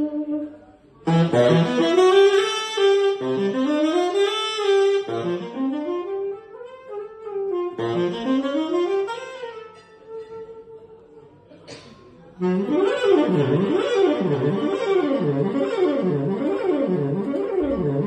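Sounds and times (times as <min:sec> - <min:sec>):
tenor saxophone playing jazz: 0:00.0 - 0:11.2, 0:12.4 - 0:18.0.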